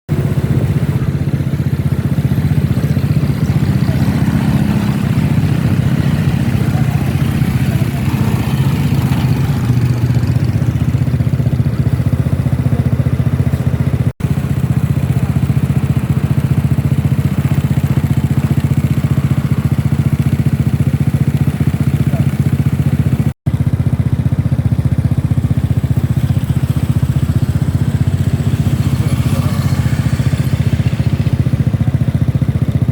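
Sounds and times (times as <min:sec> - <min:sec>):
engine idling: 0:00.1 - 0:32.9.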